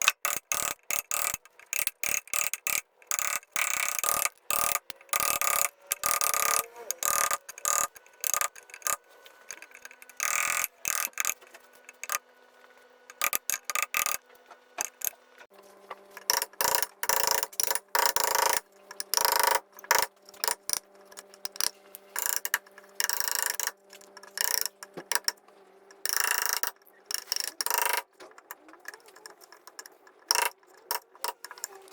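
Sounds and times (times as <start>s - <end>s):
woodworking tool clicks and knocks: 0.0s - 12.2s, 13.1s - 14.2s, 14.8s - 15.2s, 16.2s - 31.9s
woodworking tool scraping: 0.3s - 31.9s.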